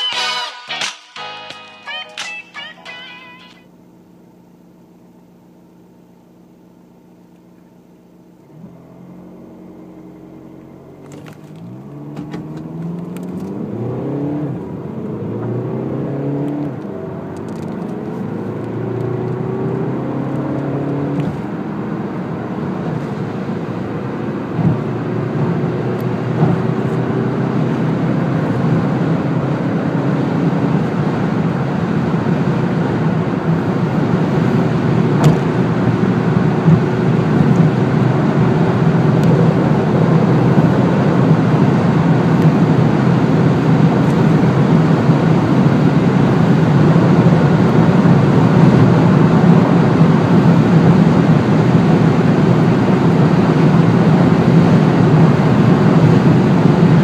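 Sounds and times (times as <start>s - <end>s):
diesel car engine accelerating: 4.7s - 57.0s.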